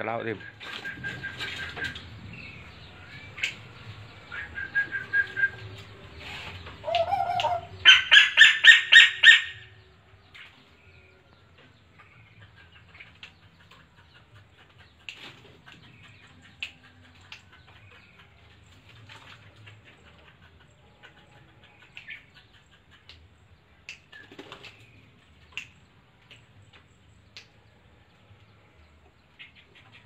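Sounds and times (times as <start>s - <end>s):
bird chirping: 0.0s - 30.0s.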